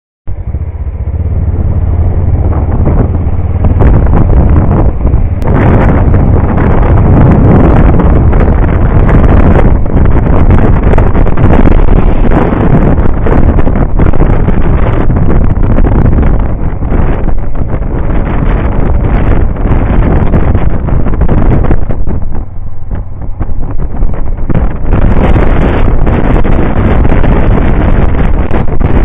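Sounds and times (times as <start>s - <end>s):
motorcycle engine running: 0.3s - 29.0s
wind buffeting camera: 0.3s - 29.0s.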